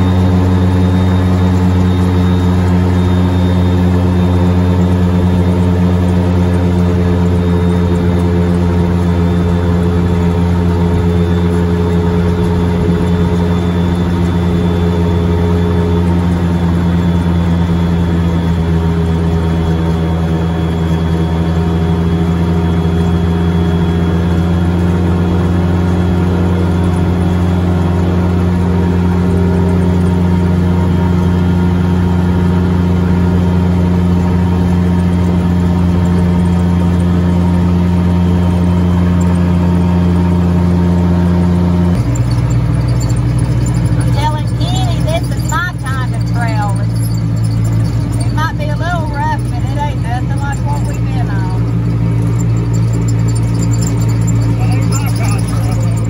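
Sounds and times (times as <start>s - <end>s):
atv engine droning: 0.0s - 56.0s.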